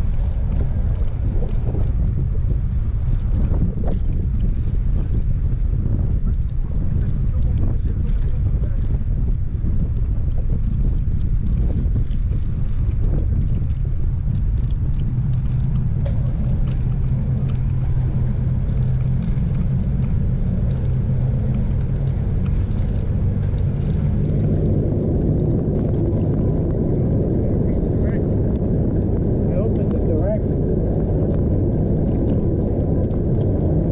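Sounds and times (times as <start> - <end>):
bicycle road noise: 0.0 - 33.9
wind buffeting microphone: 0.0 - 33.9.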